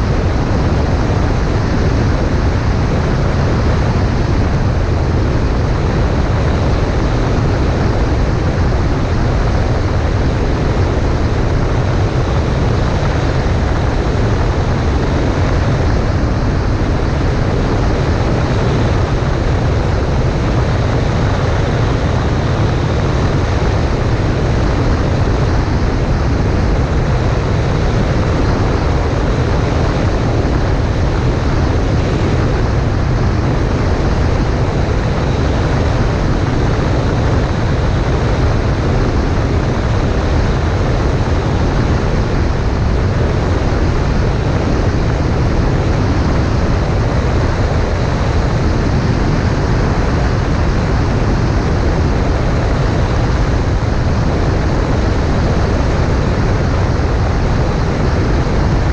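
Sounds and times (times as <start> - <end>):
light aircraft engine drone: 0.0 - 58.9.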